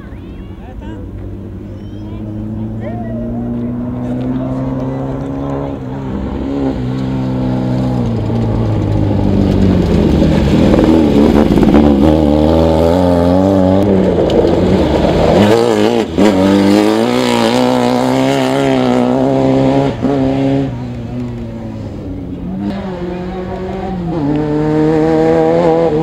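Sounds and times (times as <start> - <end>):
race car engines revving: 0.0 - 26.0.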